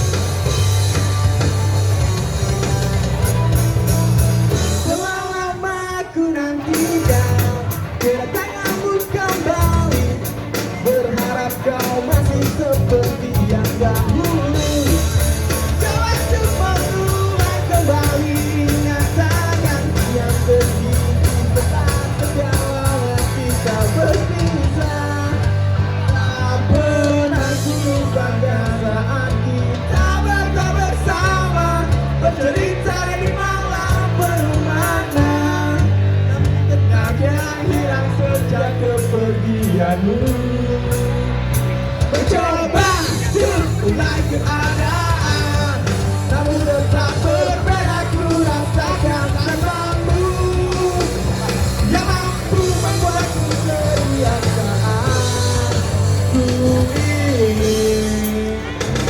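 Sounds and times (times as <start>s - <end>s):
drum kit with cymbal hits: 0.0s - 5.5s, 6.6s - 59.0s
bass guitar: 0.0s - 59.0s
distorted electric guitars: 0.0s - 59.0s
person singing: 2.4s - 59.0s.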